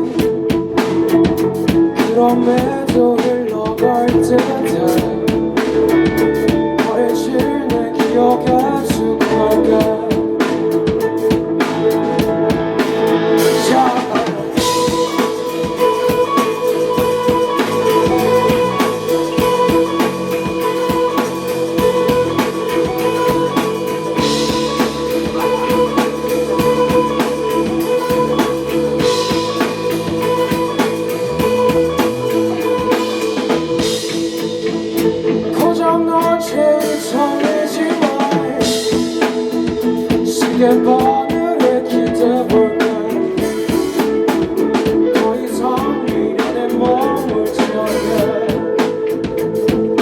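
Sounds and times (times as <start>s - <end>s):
drum kit with cymbal crashes: 0.0s - 50.0s
sustained guitar: 0.0s - 50.0s.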